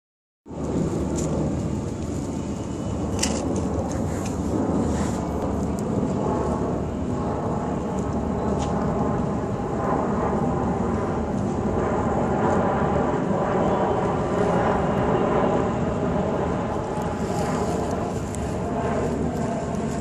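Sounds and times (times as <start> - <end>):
engine drone: 0.5 - 20.0.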